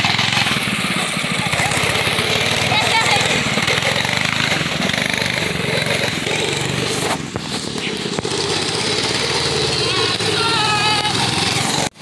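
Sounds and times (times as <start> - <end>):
go-kart engine under throttle: 0.0 - 12.0.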